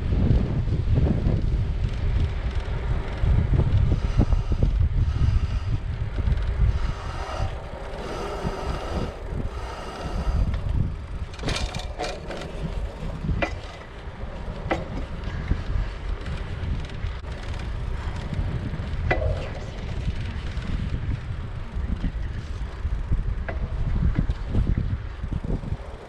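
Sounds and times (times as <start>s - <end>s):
bicycle clicks and knocks: 0.0s - 26.0s
wind rushing over microphone: 0.0s - 26.0s.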